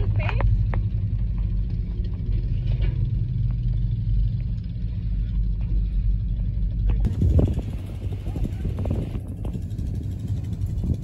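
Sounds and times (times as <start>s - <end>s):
vehicle engine low rumble: 0.0s - 11.0s.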